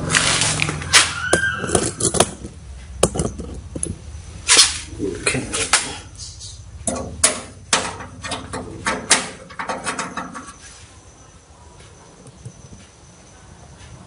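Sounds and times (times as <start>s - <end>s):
quiet handling: 0.0s - 14.0s.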